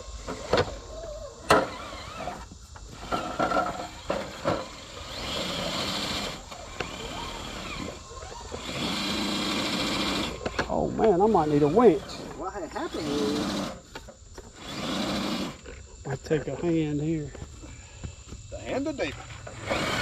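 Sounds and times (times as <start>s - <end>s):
electric motor whining: 0.0s - 15.9s, 19.0s - 20.0s.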